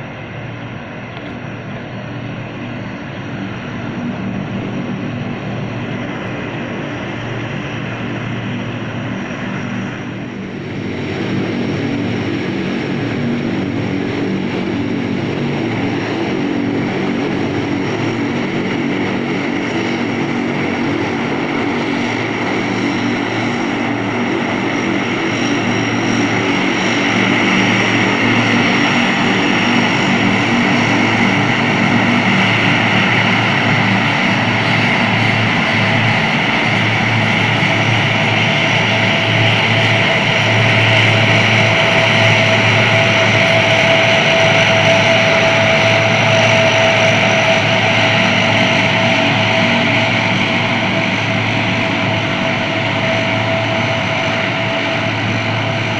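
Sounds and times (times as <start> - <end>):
turboprop engines droning: 0.0 - 55.9.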